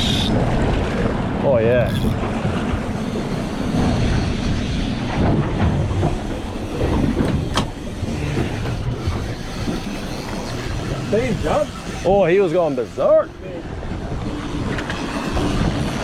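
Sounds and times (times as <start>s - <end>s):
outboard motor rumbling: 0.0s - 16.0s
water noise: 0.0s - 16.0s
wind: 0.0s - 16.0s.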